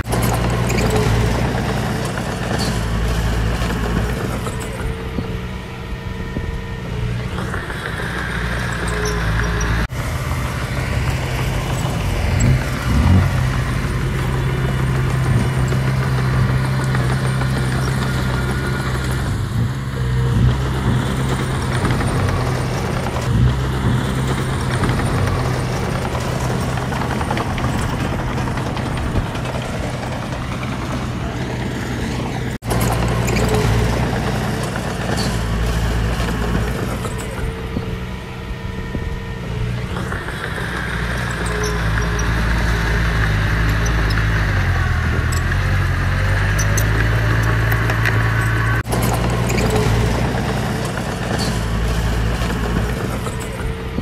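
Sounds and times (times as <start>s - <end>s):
knocks and clanks: 0.0s - 5.7s, 6.3s - 54.0s
heavy diesel engine running: 0.0s - 54.0s.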